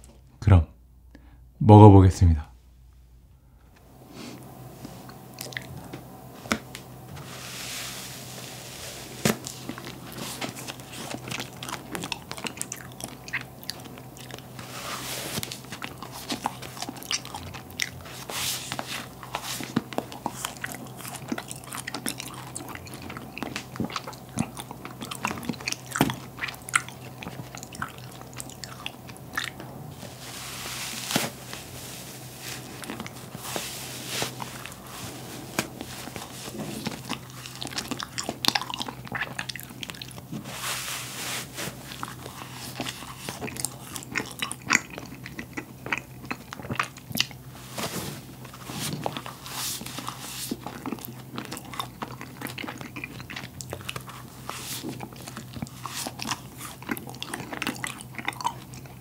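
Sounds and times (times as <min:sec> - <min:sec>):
faint low hum: 0:00.0 - 0:59.0
chewing cotton candy: 0:04.5 - 0:07.1, 0:08.0 - 0:59.0.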